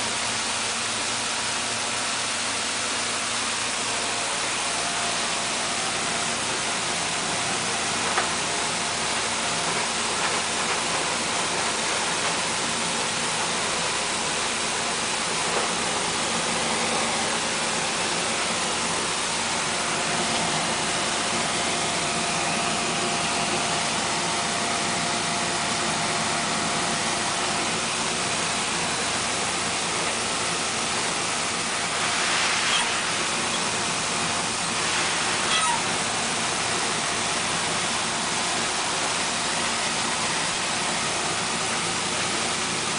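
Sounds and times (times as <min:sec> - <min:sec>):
milling machine whirring: 0:00.3 - 0:42.9.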